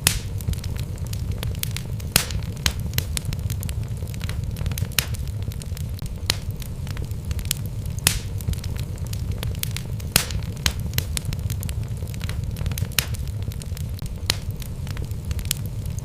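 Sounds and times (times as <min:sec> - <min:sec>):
logs burning in fireplace: 0:00.0 - 0:16.0.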